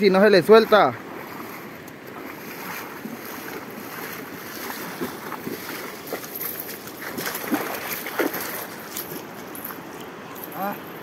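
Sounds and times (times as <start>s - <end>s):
river water rushing over stones: 0.0s - 11.0s
splashing from wading: 0.6s - 9.8s.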